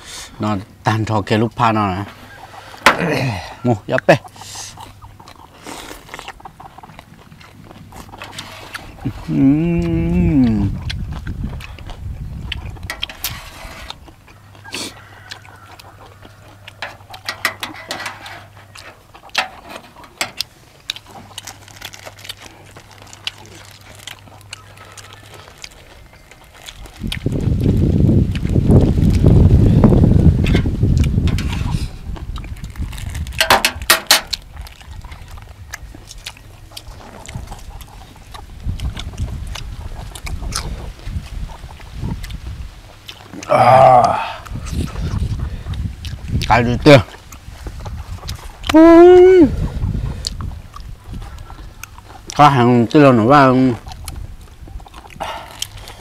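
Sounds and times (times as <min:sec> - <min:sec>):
slurping and chewing: 0:01.5 - 0:56.0.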